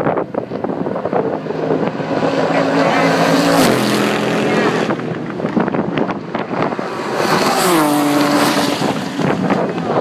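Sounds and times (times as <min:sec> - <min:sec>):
race car engines running: 0:00.0 - 0:10.0.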